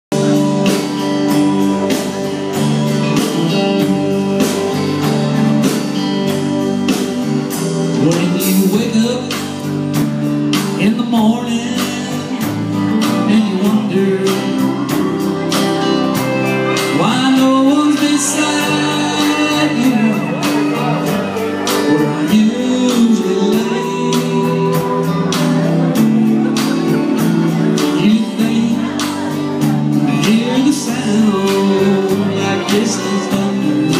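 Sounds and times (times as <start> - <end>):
drum kit beat: 0.1 - 33.9
electric guitars: 0.1 - 33.9
keyboard: 0.1 - 33.9.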